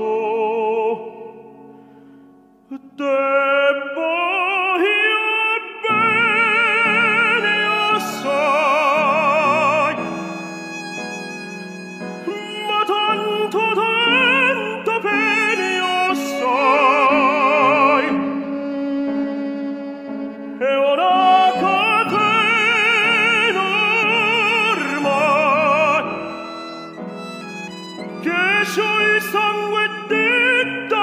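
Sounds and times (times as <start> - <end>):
operatic tenor singing: 0.0 - 1.7, 2.7 - 19.4, 20.2 - 31.0
orchestral strings: 5.3 - 31.0.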